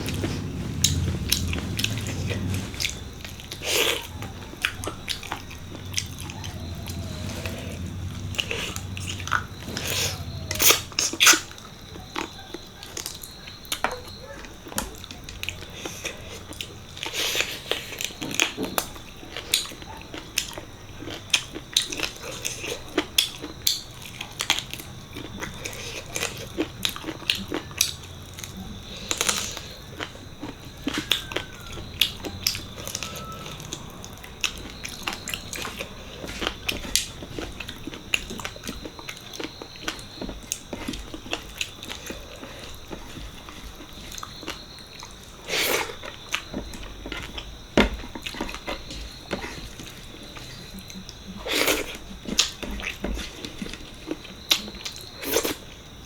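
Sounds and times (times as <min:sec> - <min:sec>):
chewing and wet smacking: 0:00.0 - 0:56.0.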